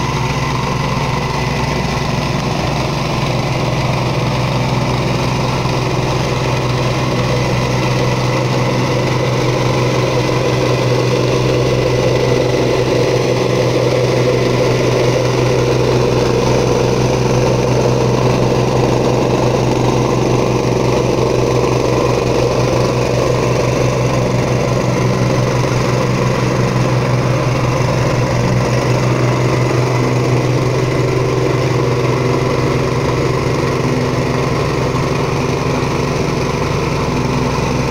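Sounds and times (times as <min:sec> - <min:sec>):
plate compactor engine running: 0:00.0 - 0:37.9.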